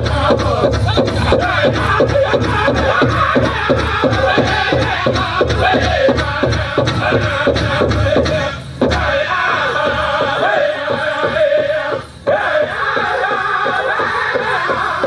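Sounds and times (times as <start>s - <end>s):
drum group singing: 0.0s - 15.0s
steady big drum beat: 0.0s - 15.0s.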